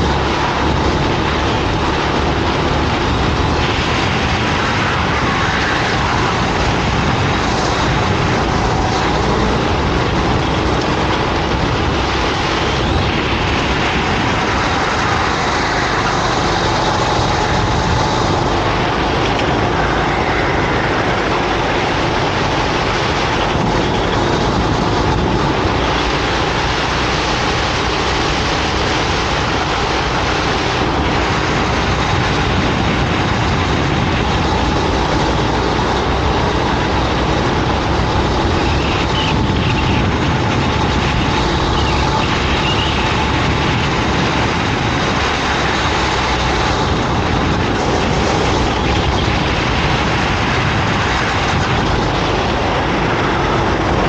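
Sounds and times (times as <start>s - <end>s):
kart engine running hard: 0.0s - 54.0s
rushing noise: 0.0s - 54.0s.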